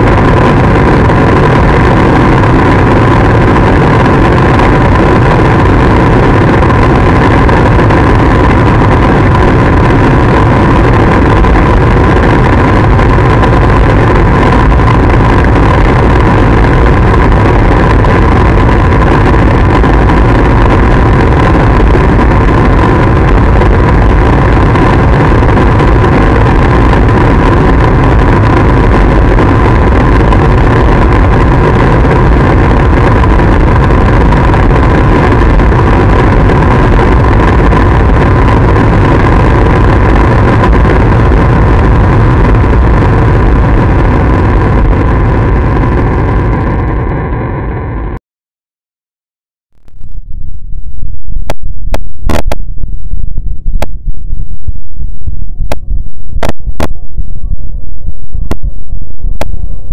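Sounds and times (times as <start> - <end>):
heavy low rumble: 0.0 - 48.2, 49.7 - 59.9
steady high hum: 0.0 - 48.2, 49.8 - 59.9
wall of distorted noise: 0.0 - 48.2, 49.8 - 59.9.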